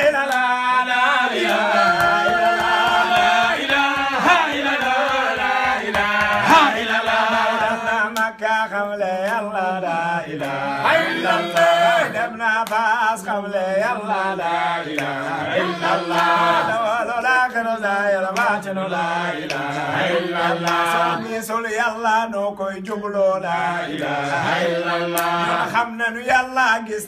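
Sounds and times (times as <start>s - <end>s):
voices chanting together: 0.0s - 26.9s.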